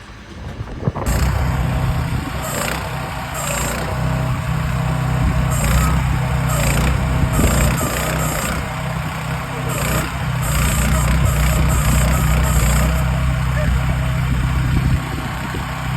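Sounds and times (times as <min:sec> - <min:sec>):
excavator engine idling: 0:01.0 - 0:15.9.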